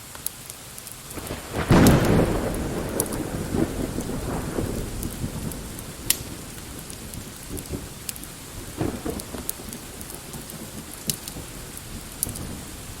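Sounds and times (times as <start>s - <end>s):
fireplace crackles: 0.0s - 13.0s
steady rain: 0.0s - 13.0s
thunder rumbling: 1.1s - 13.0s.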